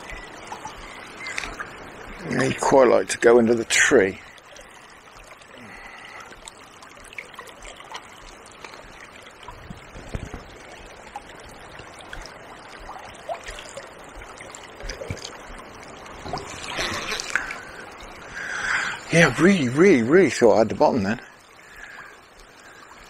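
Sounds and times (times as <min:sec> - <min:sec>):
river water running: 0:00.0 - 0:23.0
small splashing ticks: 0:00.0 - 0:23.0.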